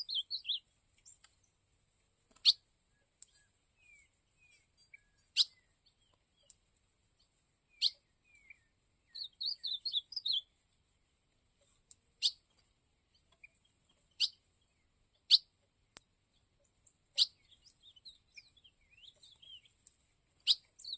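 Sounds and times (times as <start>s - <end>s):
soft bird twittering: 0.0s - 1.5s, 2.4s - 10.6s, 12.2s - 12.5s, 13.1s - 15.5s, 16.3s - 20.9s.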